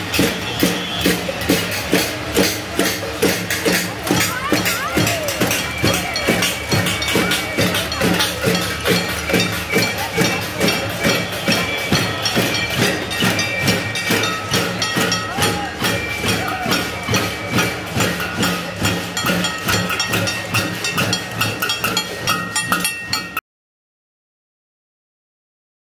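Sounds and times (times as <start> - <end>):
crowd banging pots and pans: 0.0 - 23.4.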